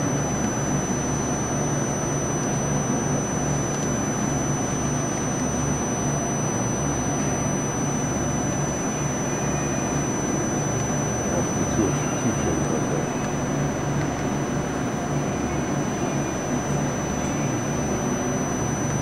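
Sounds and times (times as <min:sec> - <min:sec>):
machine low mechanical hum: 0:00.0 - 0:19.0.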